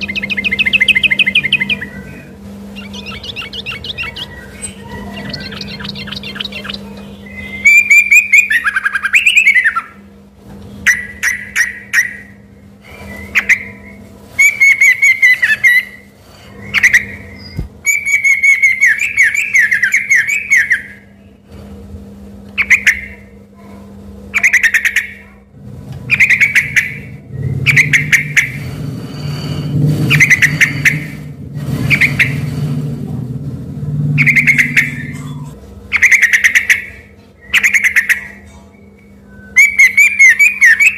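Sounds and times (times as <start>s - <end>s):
bird singing warbling phrases: 0.0s - 10.1s, 10.7s - 21.4s, 22.6s - 23.4s, 24.3s - 25.5s, 26.1s - 29.3s, 30.1s - 32.6s, 34.1s - 40.9s
low hum: 0.0s - 40.9s.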